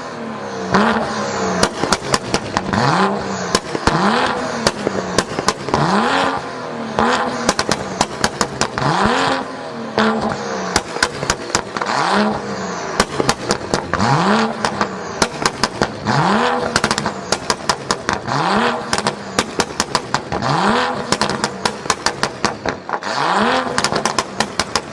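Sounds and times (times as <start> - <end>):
car engine revving: 0.0 - 24.9
exhaust pops and crackles: 0.8 - 9.5, 10.1 - 12.4, 13.0 - 24.9.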